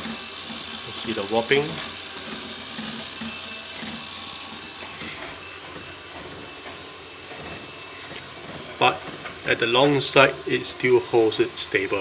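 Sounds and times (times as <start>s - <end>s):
steady fan hiss: 0.0s - 12.0s
stepper motors whirring: 0.0s - 12.0s.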